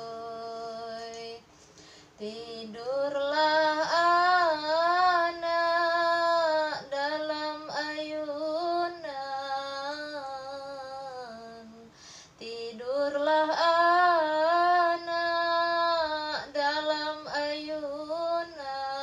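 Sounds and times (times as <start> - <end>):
woman singing lullaby: 0.0 - 1.5, 2.2 - 19.0.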